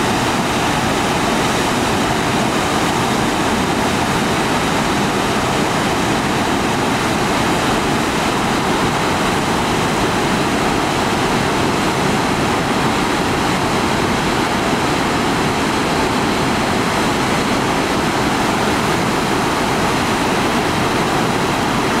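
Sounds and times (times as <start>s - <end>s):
waterfall crashing: 0.0s - 22.0s.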